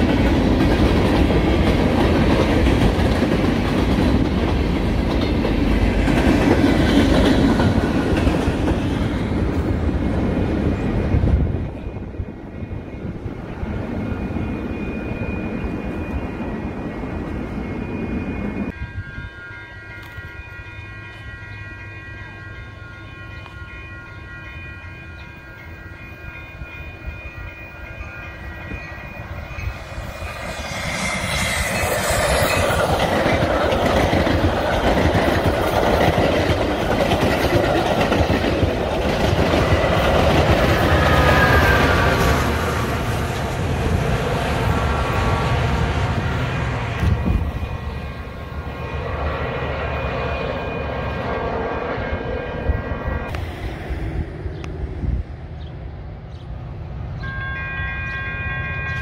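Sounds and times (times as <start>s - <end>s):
train cars rumbling and rattling: 0.0s - 59.0s.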